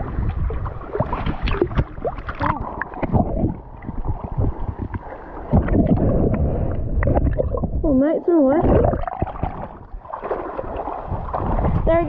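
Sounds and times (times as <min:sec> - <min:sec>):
seawater splashing and sloshing: 0:00.0 - 0:07.8, 0:08.4 - 0:12.0
muffled underwater gurgling: 0:00.0 - 0:10.0.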